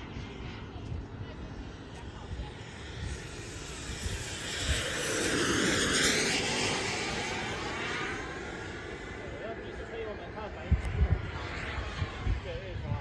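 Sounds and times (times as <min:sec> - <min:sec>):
model jet engine rushing past: 0:00.0 - 0:13.0
wind rumble on microphone: 0:00.0 - 0:13.0.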